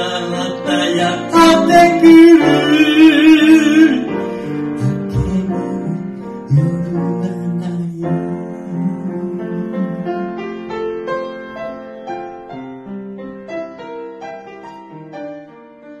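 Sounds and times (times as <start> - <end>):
piano-style keyboard playing: 0.0 - 16.0.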